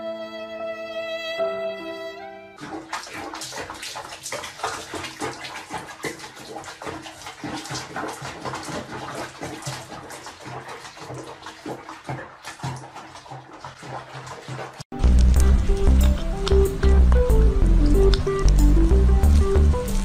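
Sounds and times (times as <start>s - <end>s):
water sloshing in a basin: 2.6s - 20.0s.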